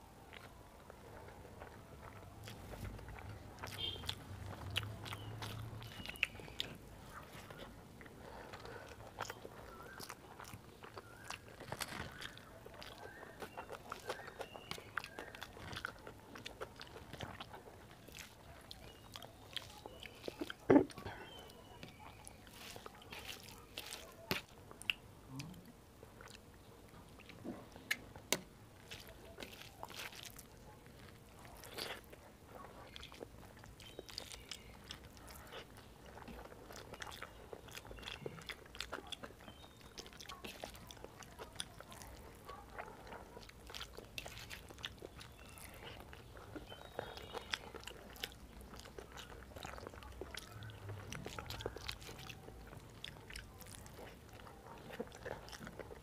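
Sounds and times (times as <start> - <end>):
chewing mouth sounds: 0.0 - 56.0
fingers squishing rice: 1.6 - 25.0, 27.2 - 56.0.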